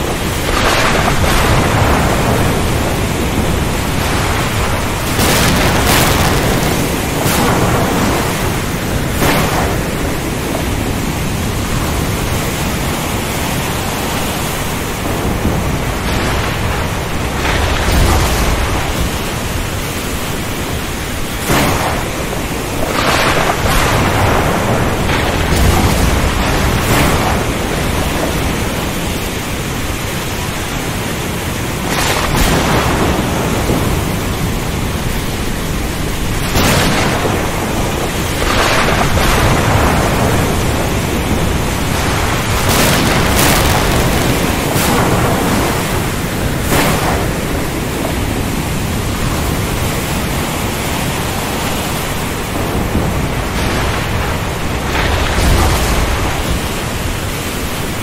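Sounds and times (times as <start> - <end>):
thunder cracks: 0.0 - 12.7, 14.8 - 30.8, 31.6 - 51.2, 52.2 - 57.4
deep thunder rumble: 0.0 - 58.0
heavy rain: 0.0 - 58.0
surf: 0.0 - 58.0.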